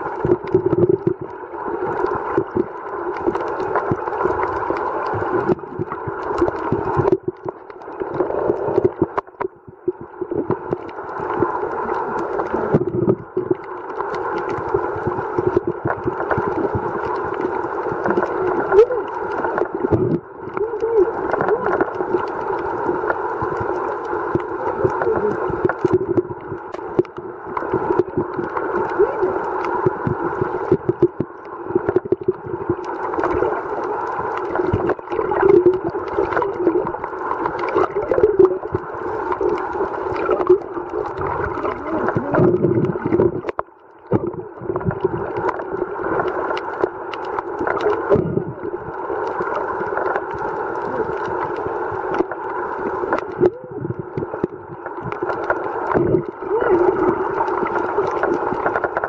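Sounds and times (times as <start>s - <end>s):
crackling clicks underwater: 0.0s - 59.0s
muffled underwater water wash: 0.0s - 59.0s.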